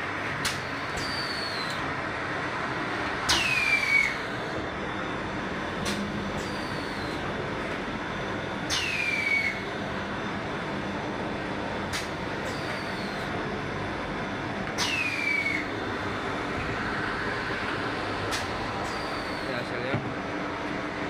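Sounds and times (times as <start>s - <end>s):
machine hum and blow: 0.0s - 21.0s.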